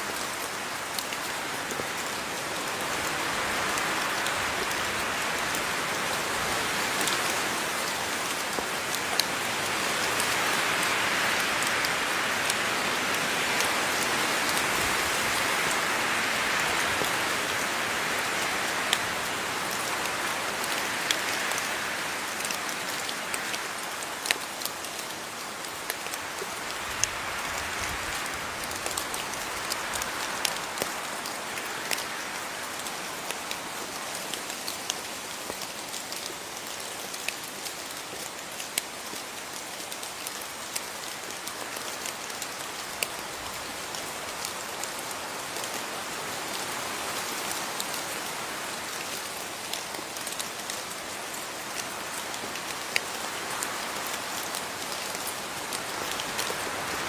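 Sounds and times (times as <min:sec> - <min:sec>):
rain falling: 0:00.0 - 0:57.0
raindrops pattering: 0:00.0 - 0:57.0.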